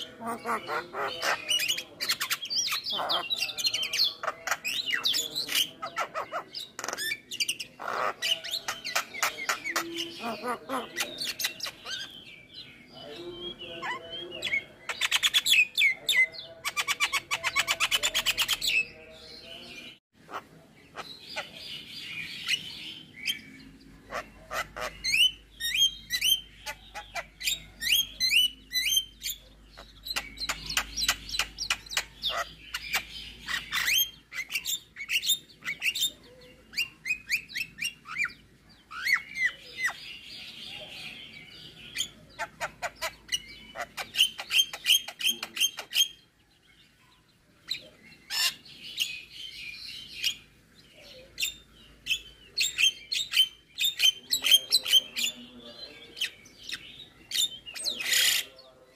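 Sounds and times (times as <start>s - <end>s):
bird singing varied song: 0.0s - 58.9s.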